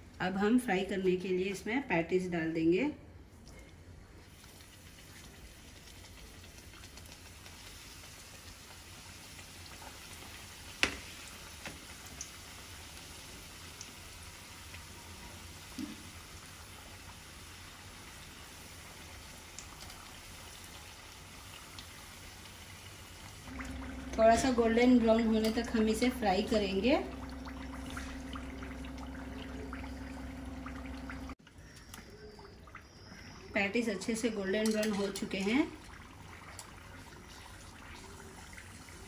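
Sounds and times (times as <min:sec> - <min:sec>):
oil sizzling and crackling: 0:04.1 - 0:31.4, 0:34.3 - 0:39.0.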